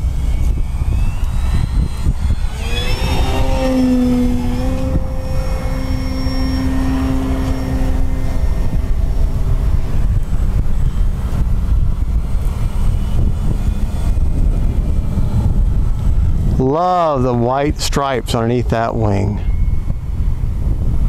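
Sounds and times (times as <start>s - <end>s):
model plane motor whine: 0.0s - 17.1s, 19.0s - 21.0s
wind noise on microphone: 0.0s - 21.0s.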